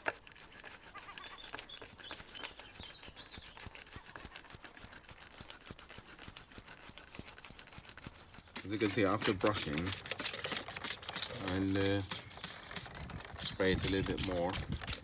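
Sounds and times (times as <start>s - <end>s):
bristle brush scrubbing a chain: 0.0s - 15.0s.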